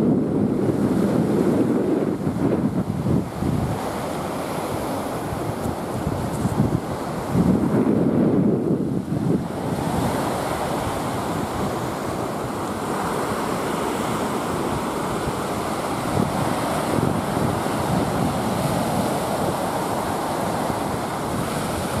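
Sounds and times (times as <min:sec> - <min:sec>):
small waves breaking on beach: 0:00.0 - 0:22.0.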